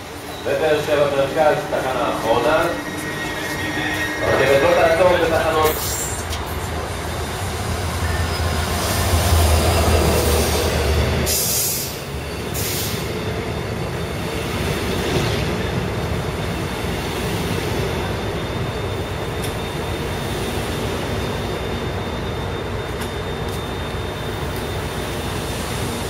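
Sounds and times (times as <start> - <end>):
diesel locomotive engine drone: 0.0 - 26.0
train wheels rumbling on rail: 0.0 - 26.0.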